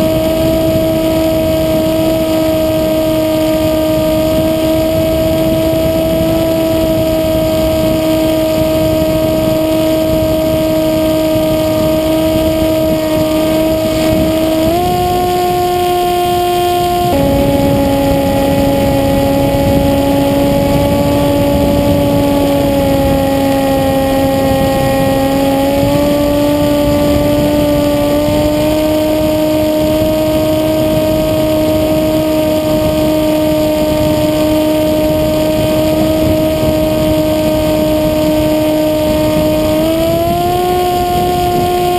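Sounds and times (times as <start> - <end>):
electric motor and propeller whine: 0.0 - 41.9
wind rush: 0.0 - 41.9.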